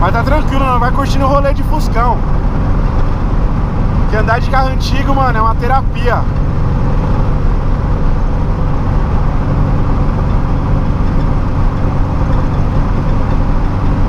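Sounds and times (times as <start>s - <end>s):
car engine cruising: 0.0s - 14.0s
tyre and road noise: 0.0s - 14.0s.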